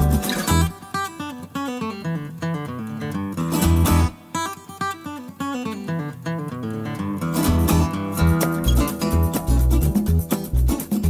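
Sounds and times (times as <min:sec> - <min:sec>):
plucked acoustic guitar melody: 0:00.0 - 0:11.0.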